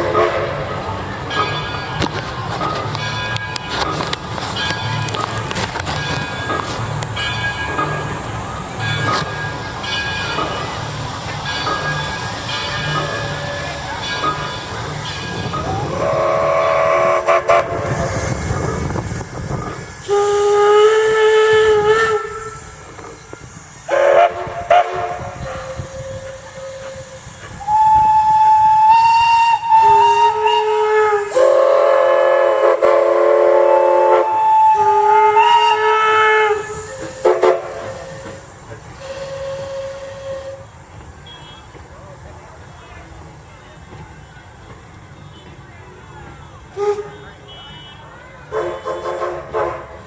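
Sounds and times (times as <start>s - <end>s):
steam locomotive whistle blowing: 0.0s - 1.4s, 7.5s - 41.8s, 44.5s - 50.0s
low rumble of train: 0.0s - 50.0s.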